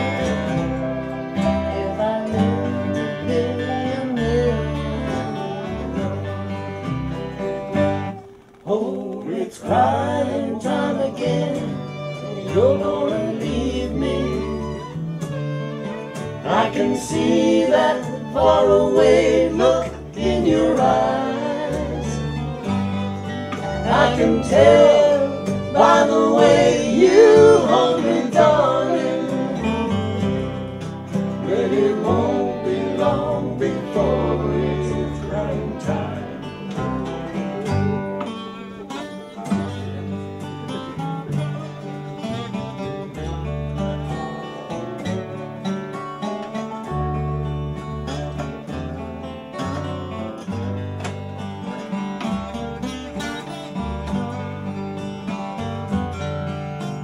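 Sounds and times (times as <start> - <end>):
acoustic guitars strummed and picked: 0.0 - 57.0
fiddle: 0.0 - 57.0
resonator guitar: 0.0 - 57.0
walking upright bass: 0.0 - 57.0.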